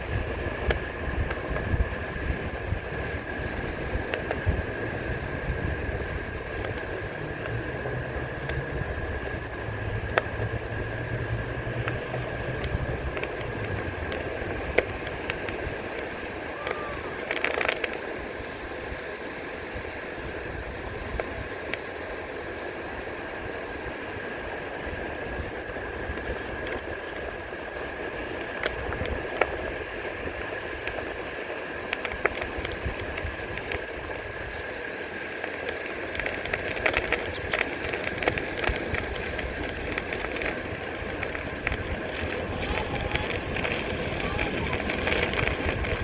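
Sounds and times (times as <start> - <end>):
steady high whine: 0.0 - 46.0
surf washing: 0.0 - 46.0
wind rumbling on microphone: 0.0 - 46.0.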